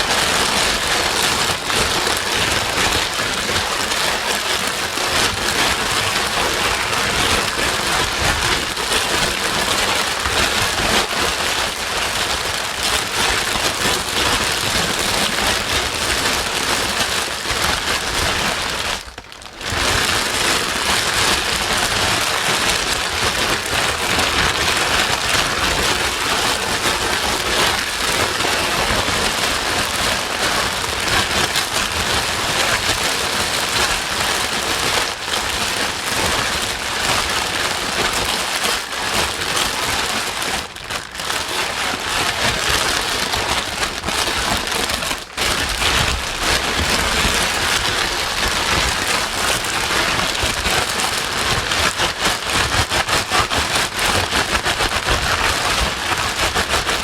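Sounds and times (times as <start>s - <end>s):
white noise like heavy rain: 0.0s - 57.0s.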